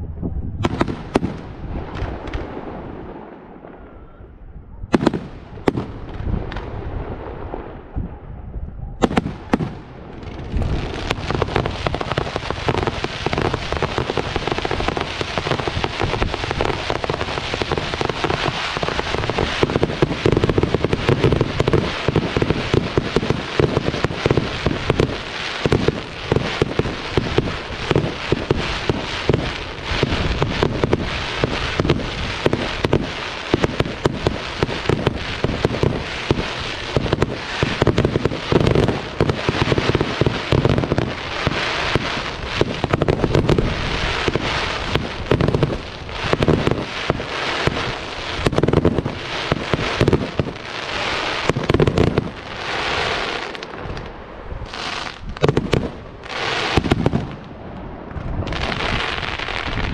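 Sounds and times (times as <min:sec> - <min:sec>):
fireworks crackling and popping: 0:00.6 - 0:03.8, 0:04.9 - 0:08.1, 0:09.0 - 0:59.9.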